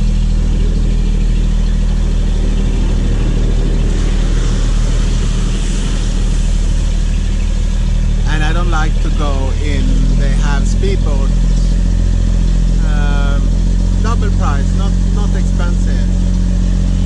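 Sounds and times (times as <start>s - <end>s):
ferry engine humming: 0.0s - 17.0s.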